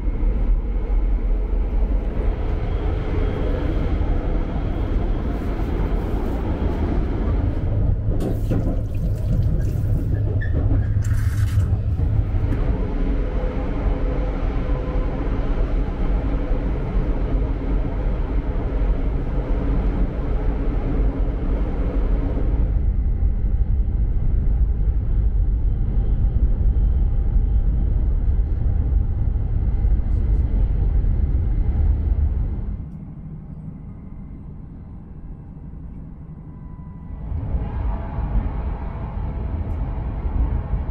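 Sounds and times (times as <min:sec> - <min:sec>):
high-speed train rumble: 0:00.0 - 0:40.9.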